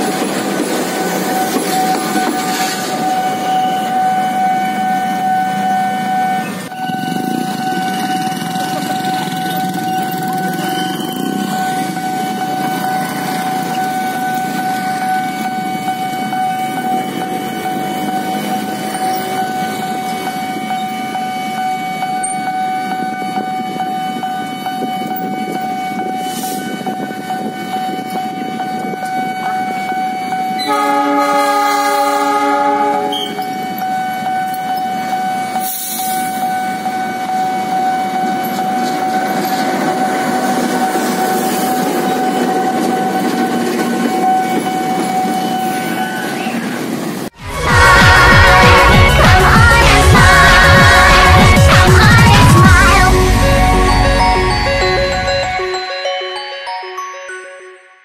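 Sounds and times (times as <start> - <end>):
level-crossing alarm high tone: 1.2 - 39.6, 47.4 - 58.0.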